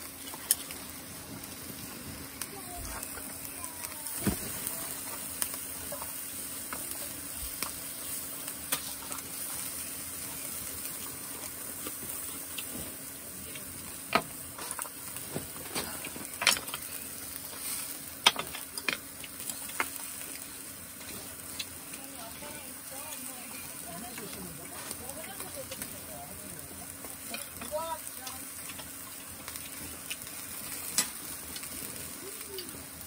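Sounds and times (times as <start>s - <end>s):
meat sizzling on grill: 0.0s - 33.0s.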